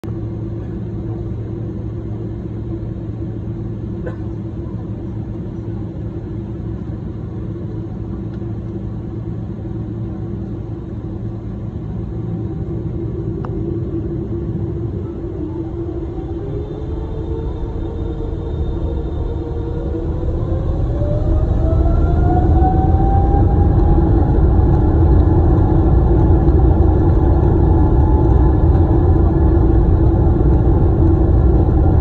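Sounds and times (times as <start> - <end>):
jet engine cabin drone: 0.0 - 32.0.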